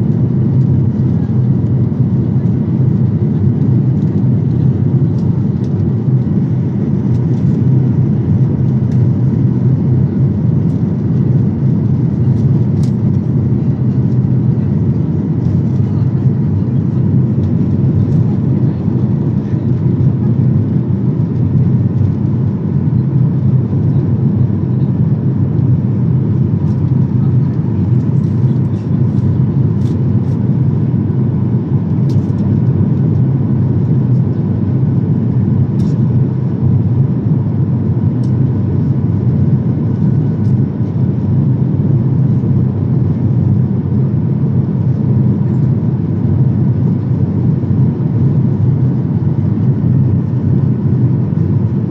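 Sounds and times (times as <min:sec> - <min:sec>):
jet engines and airflow rumble: 0:00.0 - 0:51.9.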